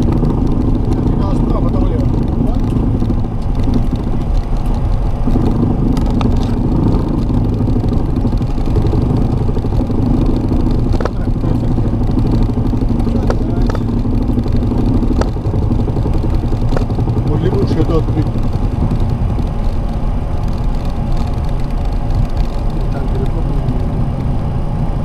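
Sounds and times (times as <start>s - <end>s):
airliner rolling on runway rumble: 0.0s - 25.0s
low hum: 0.0s - 25.0s.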